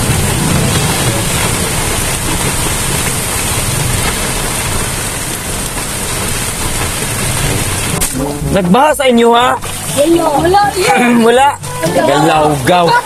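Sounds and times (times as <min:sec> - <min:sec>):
heavy rain on vehicle roof: 0:00.0 - 0:13.0.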